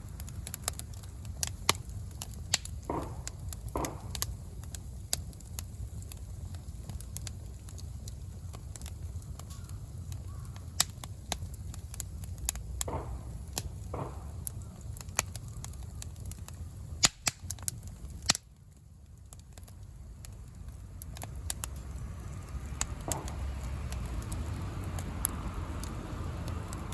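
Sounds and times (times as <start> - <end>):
bonfire crackling: 0.0 - 26.9
low noise of flames: 0.0 - 26.9
sharp pops from fire: 0.0 - 26.9.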